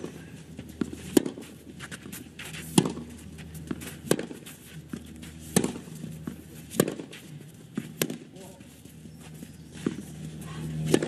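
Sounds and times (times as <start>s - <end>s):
rackets hitting tennis ball: 0.0s - 8.8s, 9.4s - 10.2s, 10.8s - 11.0s.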